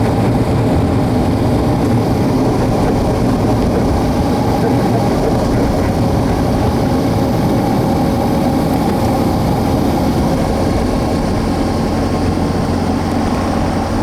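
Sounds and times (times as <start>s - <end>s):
propeller plane engine idling: 0.0s - 14.0s.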